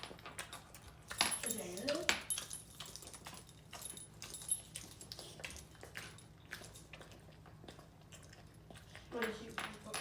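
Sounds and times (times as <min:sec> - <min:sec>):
dog chewing: 0:00.0 - 0:10.0.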